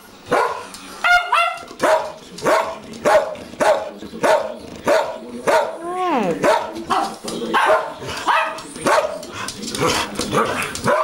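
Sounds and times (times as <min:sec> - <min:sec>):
dogs barking: 0:00.2 - 0:11.0.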